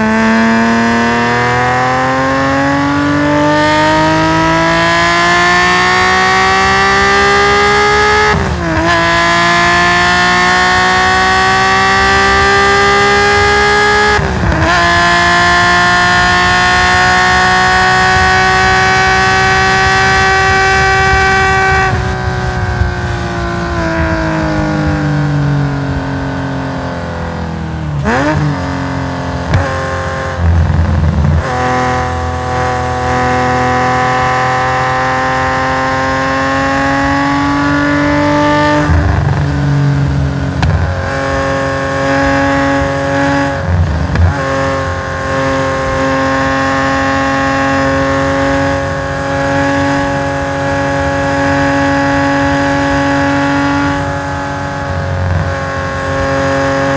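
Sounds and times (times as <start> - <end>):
race car engine at high rpm: 0.0 - 56.9
gear change: 4.2 - 56.9.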